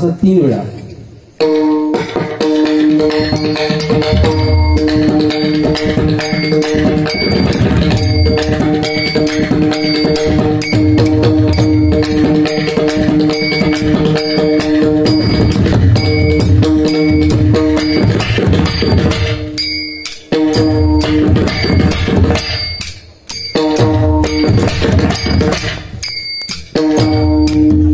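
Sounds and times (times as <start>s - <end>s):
held instrument notes: 1.1s - 27.9s
drum played in fast strokes: 1.4s - 27.9s
metallic clink keeping time: 3.0s - 27.9s.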